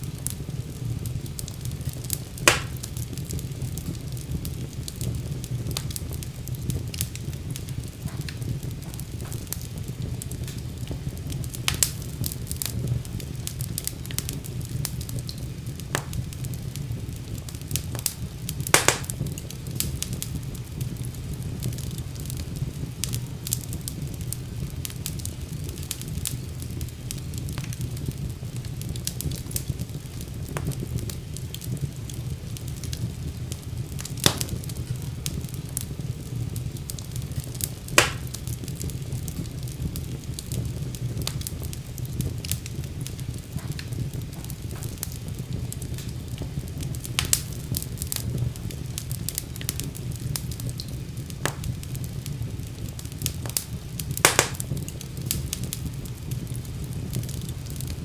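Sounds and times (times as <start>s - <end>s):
fire crackling and rumbling: 0.0s - 58.0s
sharp pops of fire: 0.0s - 58.0s.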